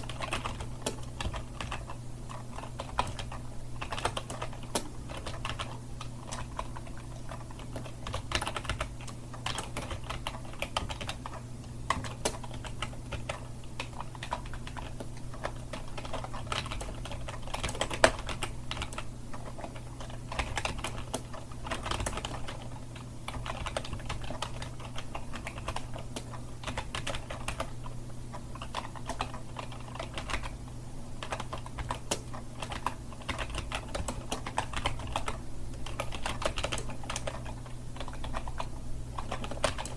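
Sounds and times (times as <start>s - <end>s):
fast typing on computer keyboard: 0.0s - 30.6s, 31.2s - 39.9s
steady low hum: 0.0s - 39.9s.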